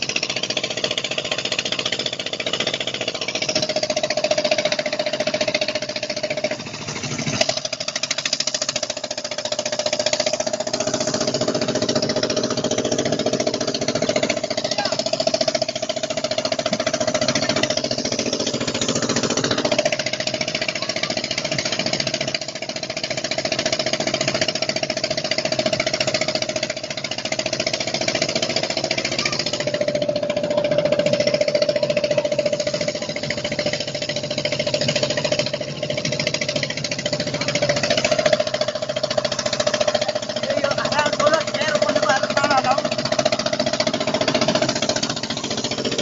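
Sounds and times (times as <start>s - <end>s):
small boat engine running: 0.0s - 46.0s.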